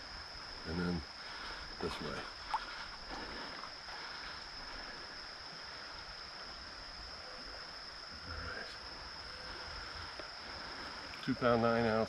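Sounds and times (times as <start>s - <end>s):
flowing river water: 0.0s - 12.0s
high insect trill: 0.0s - 12.0s.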